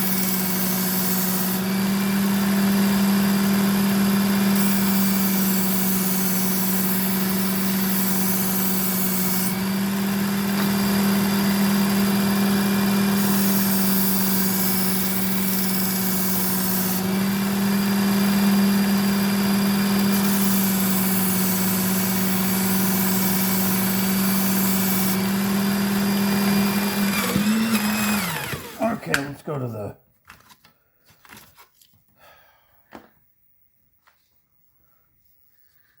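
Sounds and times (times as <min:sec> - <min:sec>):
belt sharpener motor hum: 0:00.0 - 0:29.2.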